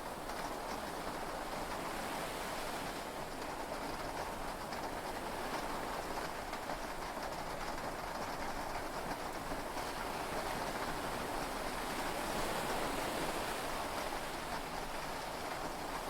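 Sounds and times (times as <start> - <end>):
heavy rain heard from inside: 0.0 - 16.0.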